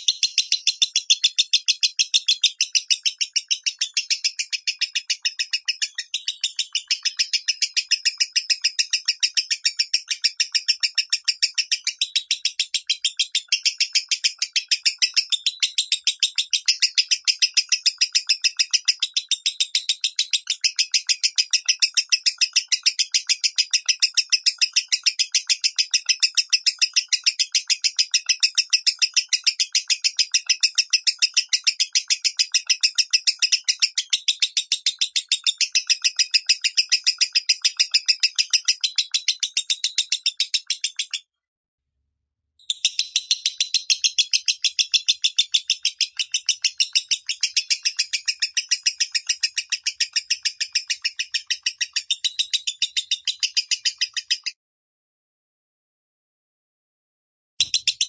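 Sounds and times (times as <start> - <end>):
lovebird chirping: 0.0 - 41.3, 42.6 - 54.6, 57.6 - 58.0.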